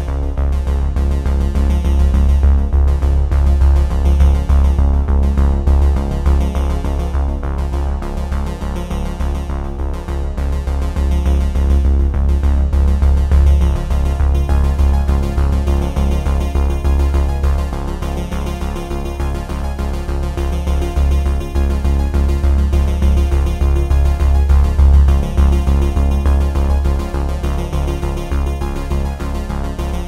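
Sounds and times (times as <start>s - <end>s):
synthesizer music with bass beat: 0.0s - 30.0s.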